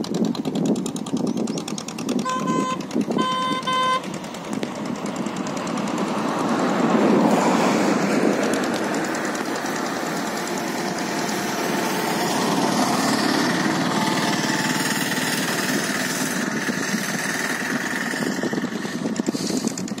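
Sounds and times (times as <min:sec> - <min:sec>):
boat engine chugging: 0:00.0 - 0:20.0.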